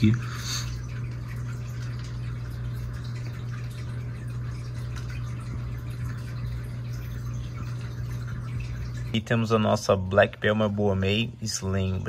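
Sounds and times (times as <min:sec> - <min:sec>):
steady low machine hum: 0:00.0 - 0:12.0.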